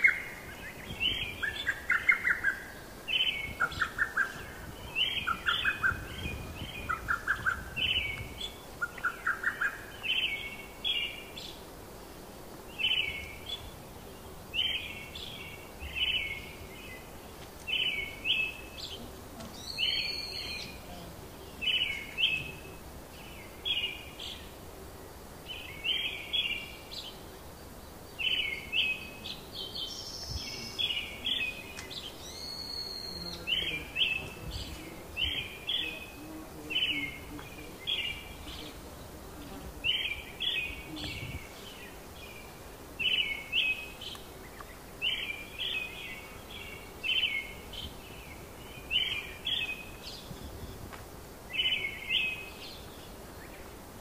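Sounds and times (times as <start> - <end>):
low outdoor background: 0.0 - 54.0.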